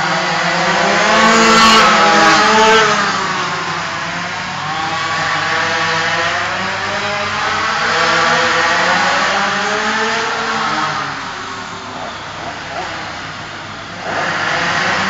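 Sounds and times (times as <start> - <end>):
kart engines racing: 0.0 - 15.0.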